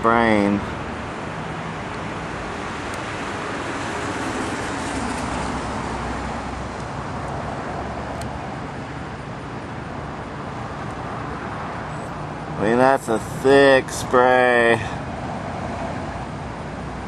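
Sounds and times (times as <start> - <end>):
distant engine rumble and hiss: 0.0 - 17.0.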